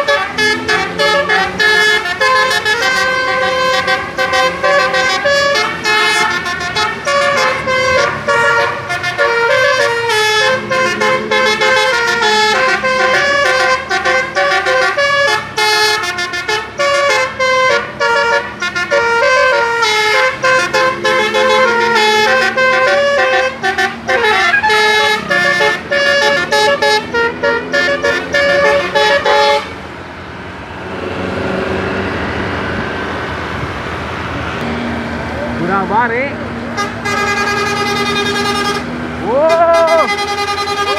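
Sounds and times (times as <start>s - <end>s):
multi-tone bus horn tune: 0.0s - 29.9s, 36.7s - 40.9s
engine and road noise: 0.0s - 40.9s.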